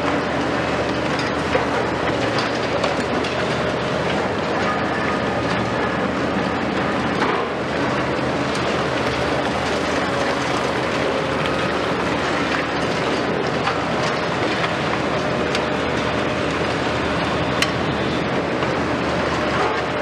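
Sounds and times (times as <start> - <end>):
excavator diesel engines rumbling: 0.0 - 20.0.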